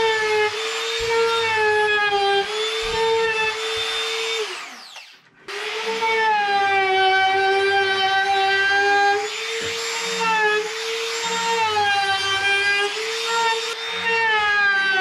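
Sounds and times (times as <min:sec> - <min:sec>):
router cutting wood: 0:00.0 - 0:15.0.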